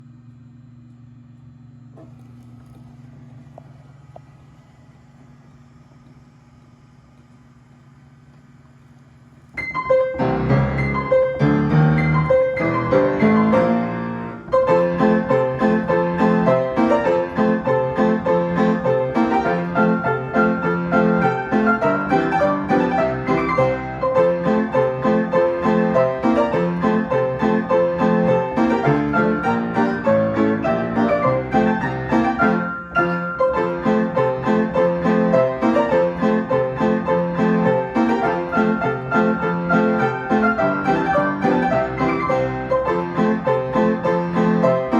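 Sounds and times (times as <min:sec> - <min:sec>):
piano playing a tune: 0:08.7 - 0:44.9.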